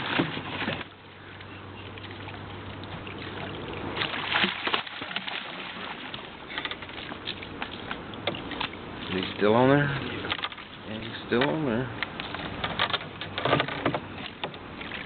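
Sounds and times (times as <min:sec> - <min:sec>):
low steady hum: 0:00.0 - 0:15.0
water sloshing around boat: 0:00.0 - 0:15.0.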